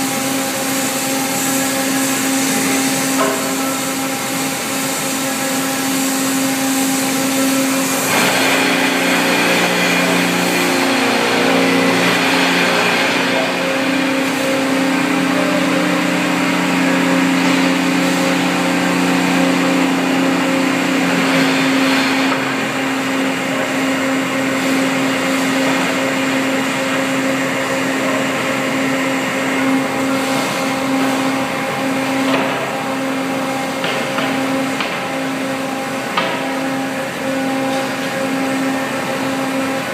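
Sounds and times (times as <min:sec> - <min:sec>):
industrial machine hum: 0:00.0 - 0:39.9.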